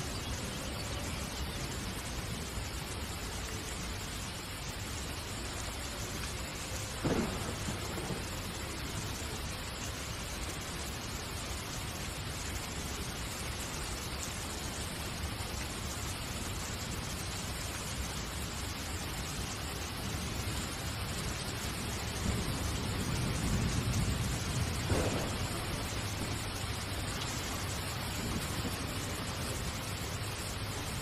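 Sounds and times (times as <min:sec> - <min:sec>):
rushing hiss with low rumble: 0:00.0 - 0:31.0.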